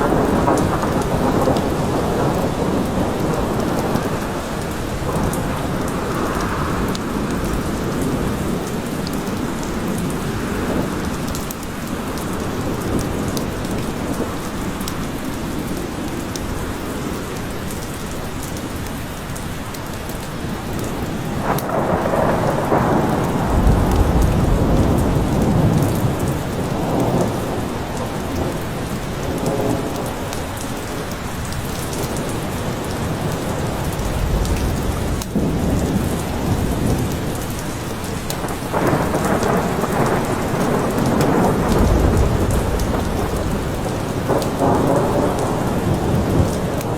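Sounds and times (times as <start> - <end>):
thunder rumbling: 0.0 - 17.2, 20.4 - 46.9
heavy rain in forest: 0.0 - 46.9.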